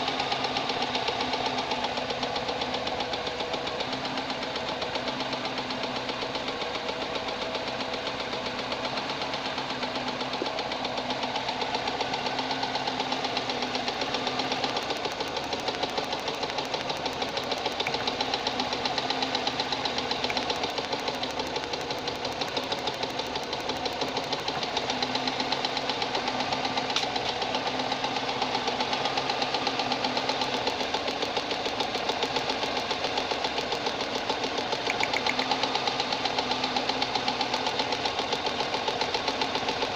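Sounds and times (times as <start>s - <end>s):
car engine with rhythmic knock: 0.0s - 39.9s.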